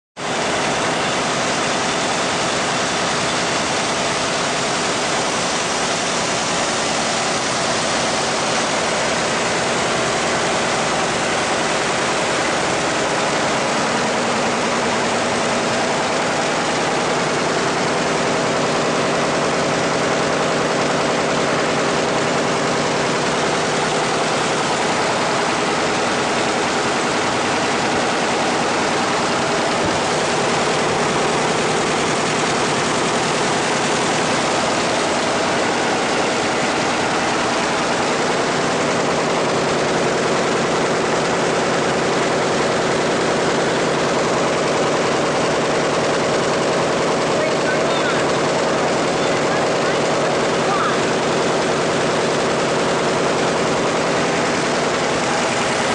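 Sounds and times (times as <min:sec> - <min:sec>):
envelope folding machine rattling: 0:00.2 - 0:55.9.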